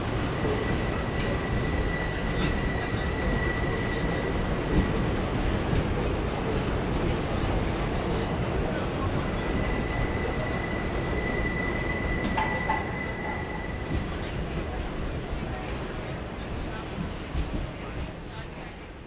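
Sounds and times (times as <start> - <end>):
high wheel squeal: 0.0 - 16.4
lower squeal tone: 0.0 - 16.8
subway train rumbling on rails: 0.0 - 19.0.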